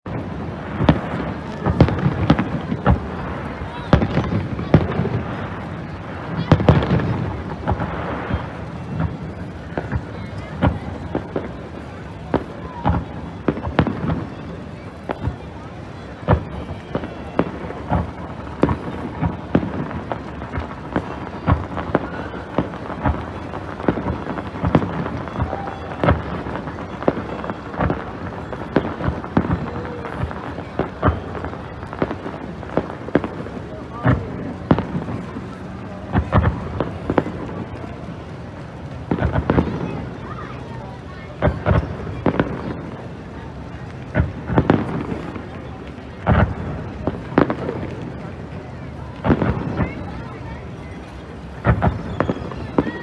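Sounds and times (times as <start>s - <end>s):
fireworks rumbling and crackle: 0.0s - 53.0s
fireworks bangs: 0.1s - 53.0s.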